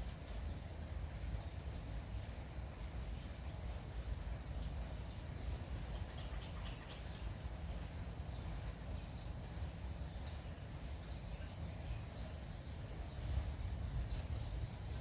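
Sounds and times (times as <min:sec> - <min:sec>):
light rain falling: 0:00.0 - 0:15.0
small birds chirping: 0:00.1 - 0:15.0.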